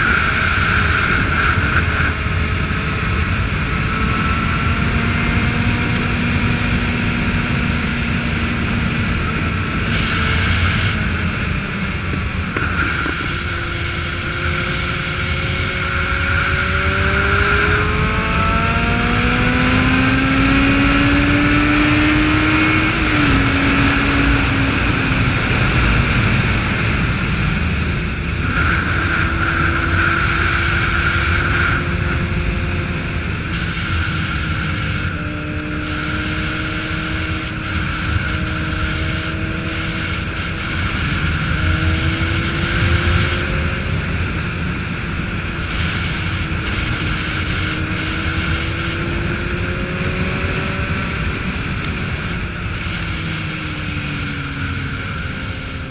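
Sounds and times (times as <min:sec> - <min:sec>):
motorcycle engine cruising: 0:00.0 - 0:55.9
wind noise on microphone: 0:00.0 - 0:55.9.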